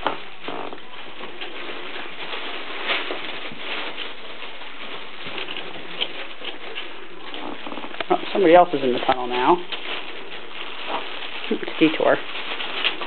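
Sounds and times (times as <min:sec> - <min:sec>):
puppy vocal sounds: 0:00.0 - 0:11.8
puppy paws scrabbling on floor: 0:00.0 - 0:13.0.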